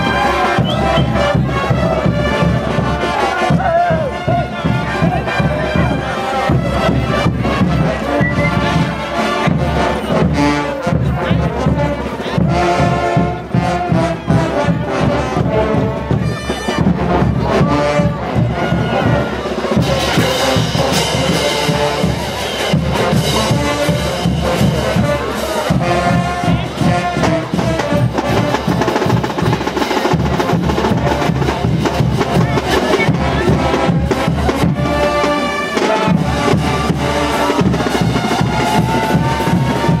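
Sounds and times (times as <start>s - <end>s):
drums and cymbals beat: 0.0s - 40.0s
trumpets and trombones: 0.0s - 40.0s.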